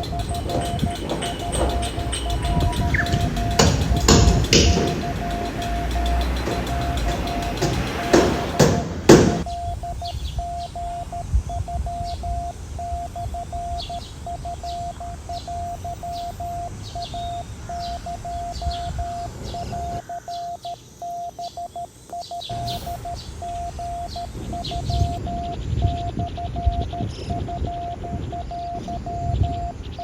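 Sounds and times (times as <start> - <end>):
birds chirping: 0.0 - 30.0
morse code beeping: 0.0 - 30.0.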